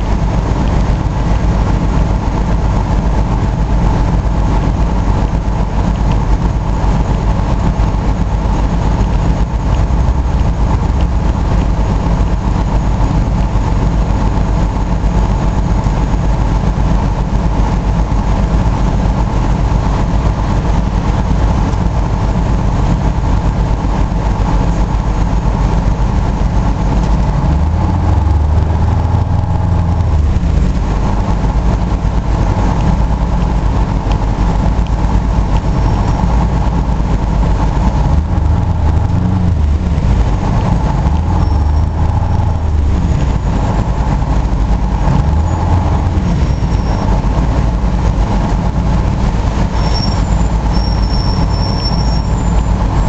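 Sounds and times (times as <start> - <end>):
bus diesel engine idling: 0.0 - 53.0.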